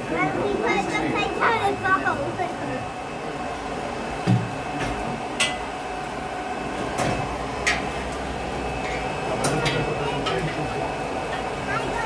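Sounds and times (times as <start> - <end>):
blower fan drone: 0.0 - 12.0.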